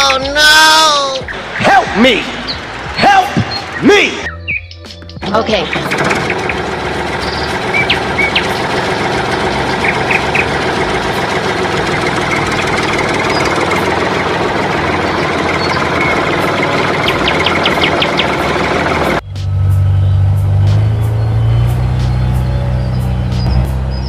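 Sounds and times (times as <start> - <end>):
engine running steadily: 0.0 - 4.3, 5.1 - 24.0.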